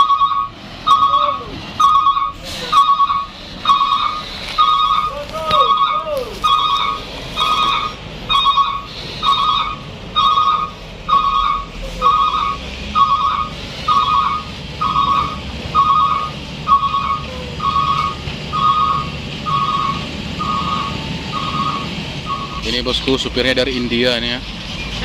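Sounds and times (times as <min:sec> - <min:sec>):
reversing alarm beeping: 0:00.0 - 0:22.9
diesel engine running: 0:00.0 - 0:25.0.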